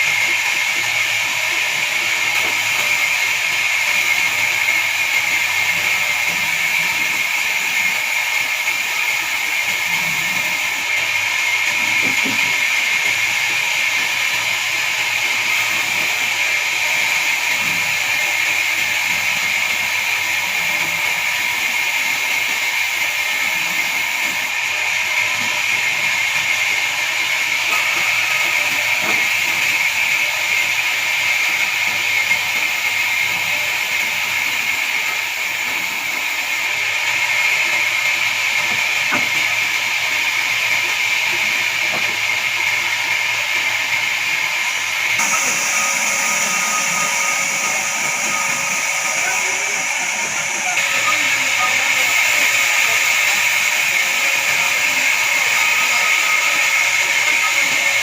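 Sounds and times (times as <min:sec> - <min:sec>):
band saw whining through log: 0:00.0 - 0:58.0.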